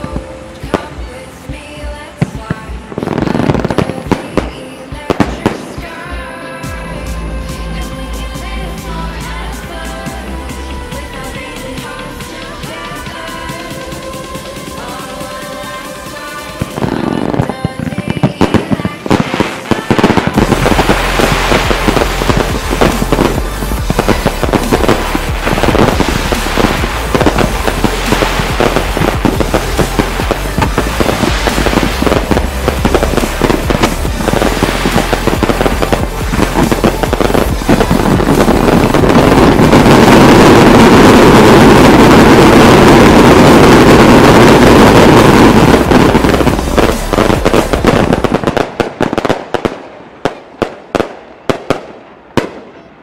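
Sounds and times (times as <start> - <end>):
fireworks exploding: 0.0 - 10.2, 11.0 - 53.0
fireworks crackling: 0.0 - 52.9.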